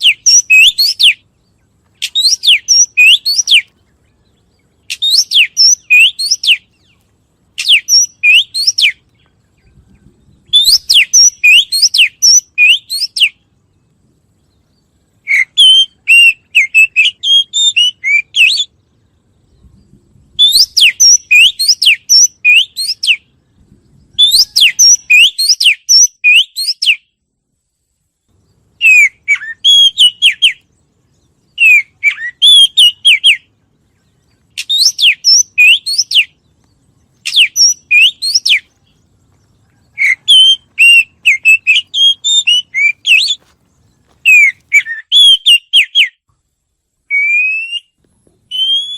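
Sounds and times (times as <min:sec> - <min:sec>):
bird singing whistled notes: 0:00.0 - 0:46.3, 0:46.9 - 0:48.9.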